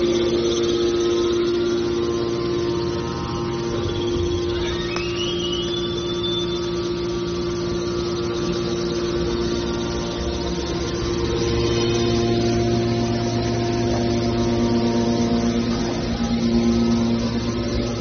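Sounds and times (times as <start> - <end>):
hydraulic power pack humming: 0.0 - 18.0
thin rising whine: 0.0 - 18.0.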